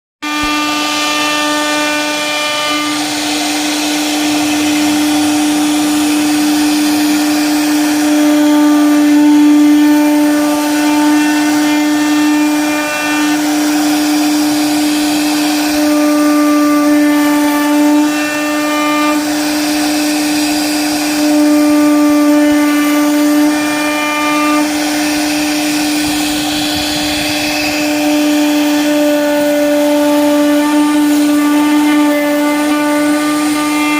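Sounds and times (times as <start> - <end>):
power tool motor running: 0.2 - 33.9.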